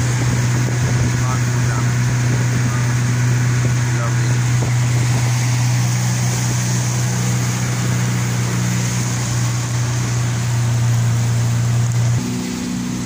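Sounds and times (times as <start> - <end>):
motorboat engine drone: 0.0 - 13.0
water rushing hiss: 0.0 - 13.0.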